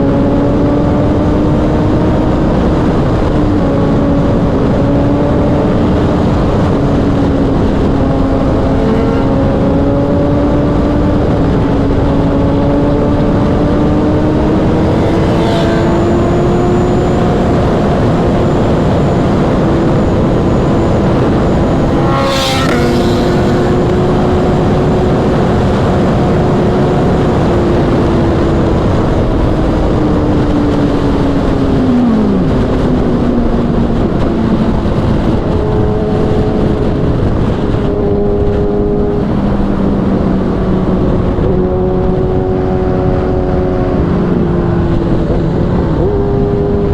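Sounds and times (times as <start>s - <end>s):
wind noise: 0.0s - 46.9s.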